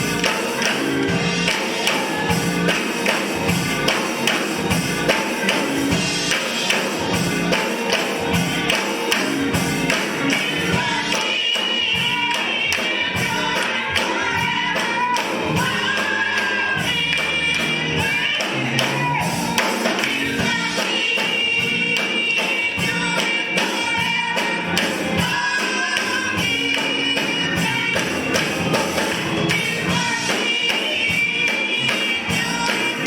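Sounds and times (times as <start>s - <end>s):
busy percussion beat: 0.0s - 33.0s
gospel singing: 0.0s - 33.0s.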